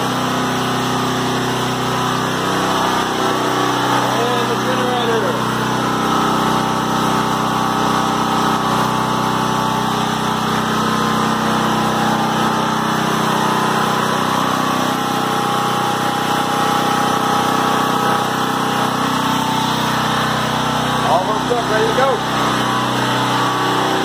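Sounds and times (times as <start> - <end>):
generator running: 0.0 - 24.0.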